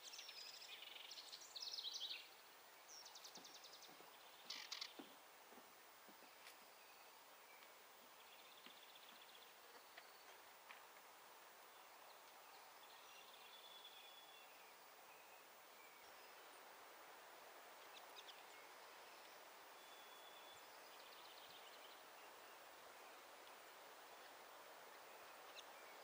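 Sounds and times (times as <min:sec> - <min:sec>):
songbird calls: 0:00.0 - 0:11.0, 0:11.6 - 0:16.7, 0:17.7 - 0:26.0
background hiss: 0:00.0 - 0:26.0.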